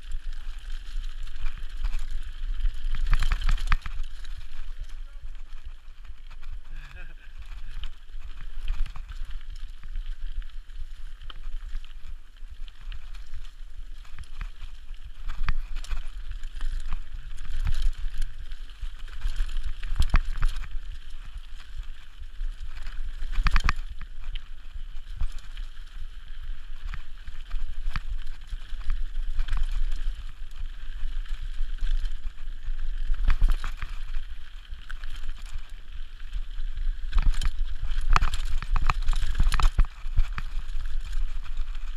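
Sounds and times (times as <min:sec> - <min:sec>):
bike rattling and knocking: 0:00.0 - 0:41.9
bike tyres on dirt: 0:00.0 - 0:41.9.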